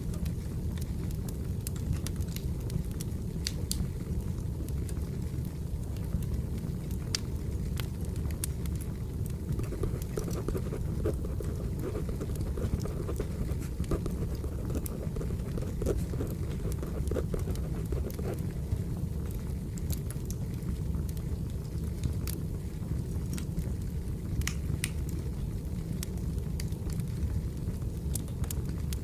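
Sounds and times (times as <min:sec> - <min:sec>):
wood fire rumbling and crackling: 0:00.0 - 0:29.0.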